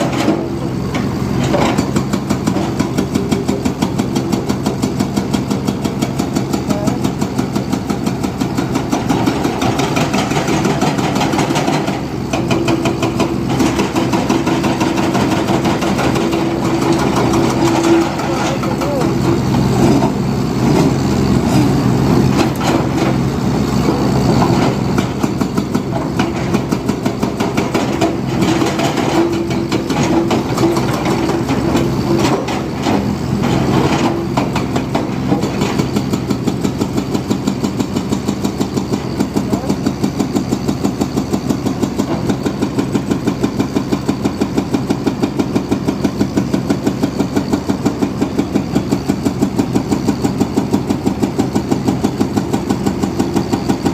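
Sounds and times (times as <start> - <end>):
diesel machinery engine running: 0.0 - 53.9.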